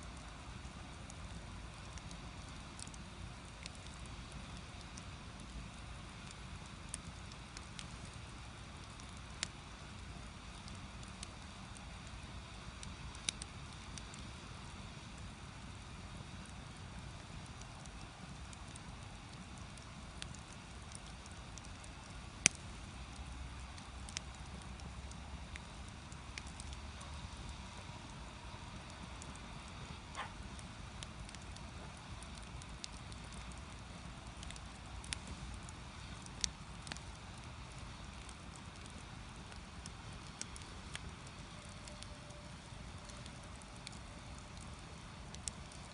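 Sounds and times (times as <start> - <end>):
fire rumbling: 0.0 - 45.9
firewood crackling and popping: 0.0 - 45.9.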